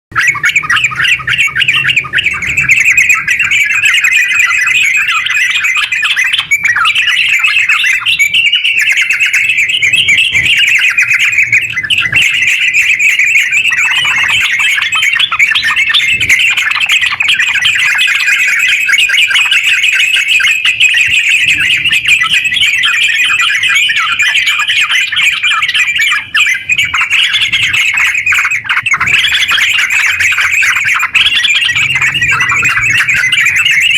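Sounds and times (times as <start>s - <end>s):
bulbul singing bubbling chatter: 0.1s - 33.9s.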